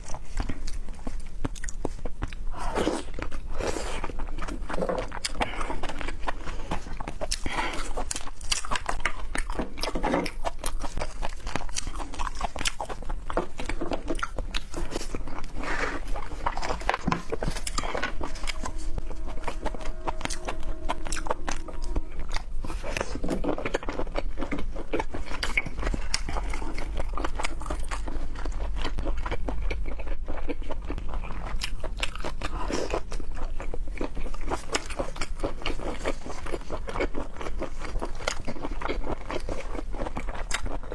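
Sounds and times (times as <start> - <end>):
person chewing with mouth smacks: 0.0 - 40.9.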